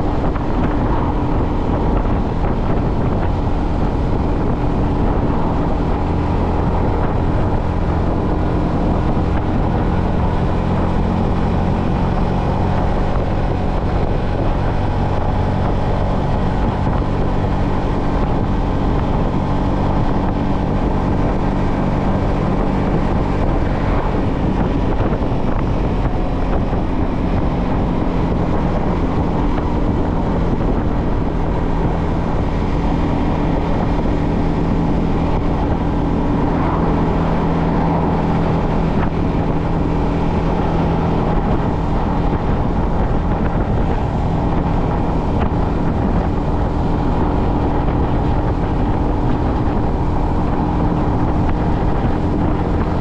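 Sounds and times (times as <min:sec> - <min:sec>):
motorcycle engine cruising: 0:00.0 - 0:53.0
wind rushing over microphone: 0:00.0 - 0:53.0.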